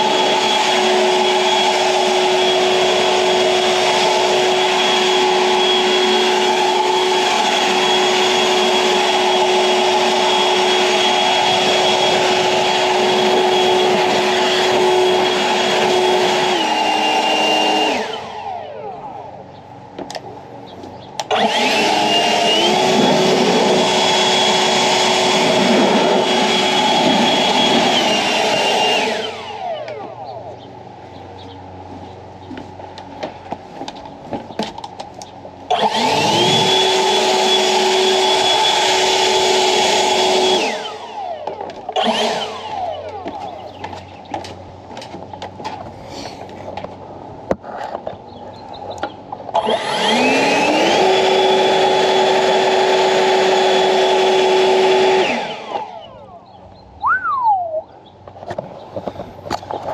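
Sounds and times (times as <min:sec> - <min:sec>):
leaf blower whining: 0:00.0 - 0:47.0, 0:47.9 - 0:59.9.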